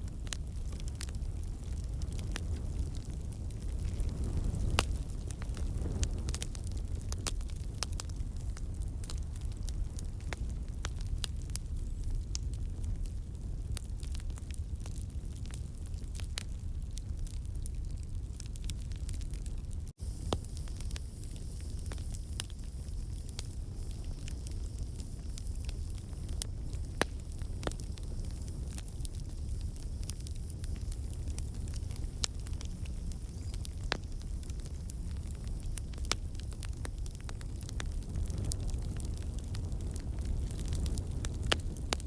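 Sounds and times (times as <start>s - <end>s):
logs crackling and popping: 0.0s - 42.0s
low rumble of flames: 0.0s - 42.0s.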